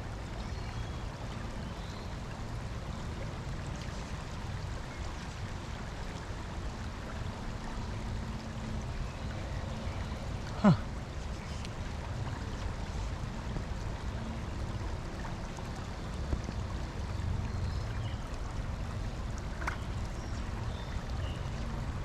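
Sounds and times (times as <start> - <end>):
creek water flowing: 0.0 - 22.0.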